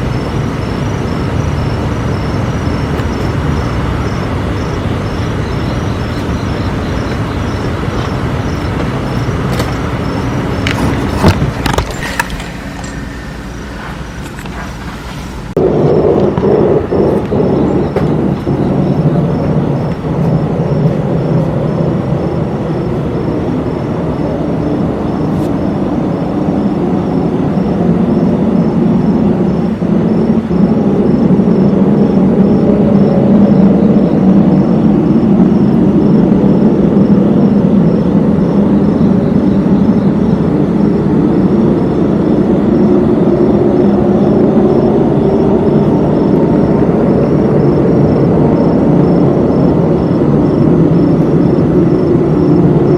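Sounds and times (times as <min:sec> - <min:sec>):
low wavering drone: 0:00.0 - 0:52.9.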